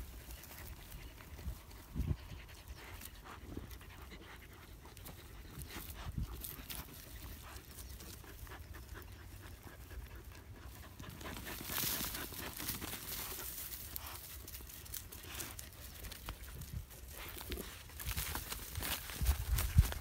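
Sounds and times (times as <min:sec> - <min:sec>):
dogs panting and sniffing: 0:00.0 - 0:20.0
scratching in dry earth: 0:00.0 - 0:20.0.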